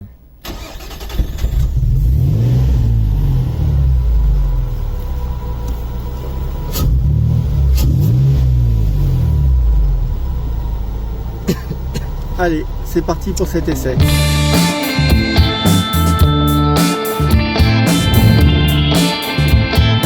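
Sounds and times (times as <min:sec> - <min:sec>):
sports car engine revving: 0:01.5 - 0:20.0.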